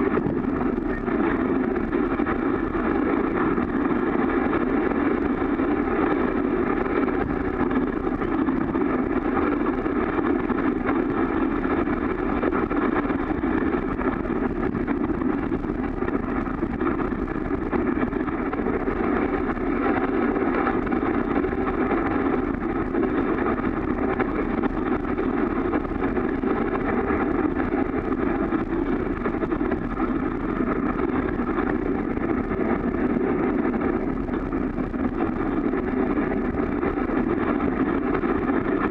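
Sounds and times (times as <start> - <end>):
wind on microphone: 0.0 - 38.9.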